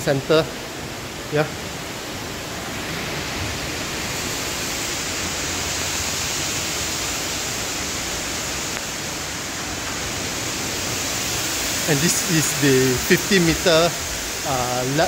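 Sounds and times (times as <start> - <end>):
water spilling over pool edge: 0.0 - 15.0.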